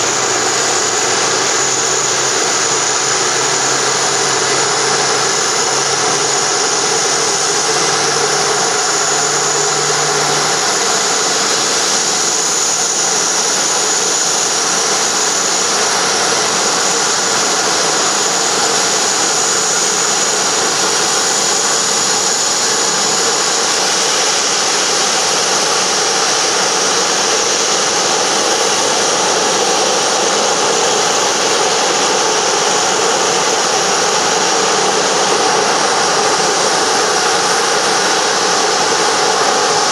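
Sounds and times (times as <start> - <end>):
jet turbine whine and roar: 0.0 - 39.9.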